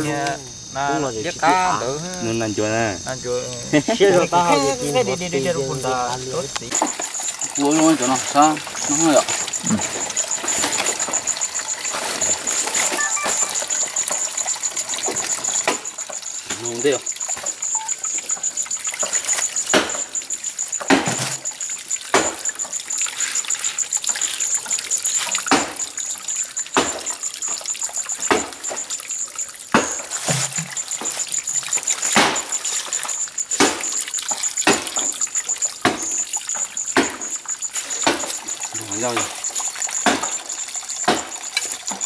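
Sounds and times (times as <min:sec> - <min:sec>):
insect trilling: 0:00.0 - 0:42.0
water trickling and splashing: 0:00.0 - 0:42.0.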